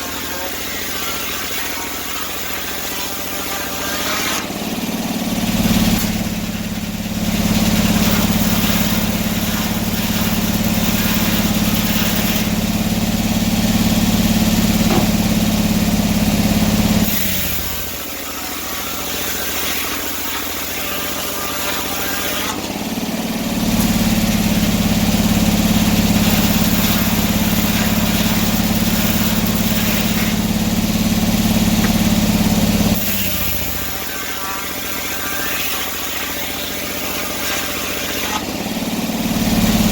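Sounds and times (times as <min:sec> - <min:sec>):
sawmill sawing log: 0:00.0 - 0:39.9.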